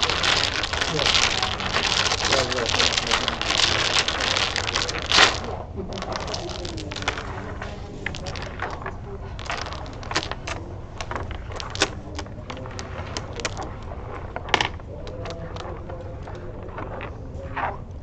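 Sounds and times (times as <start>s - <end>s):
dominoes clicking on wooden table: 0.0s - 17.7s.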